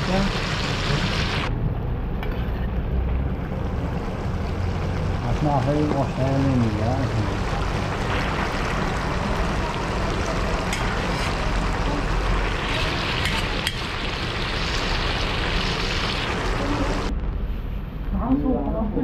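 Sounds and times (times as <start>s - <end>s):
food bubbling and sizzling in pot: 0.0s - 18.6s
low fire rumble: 0.0s - 19.0s.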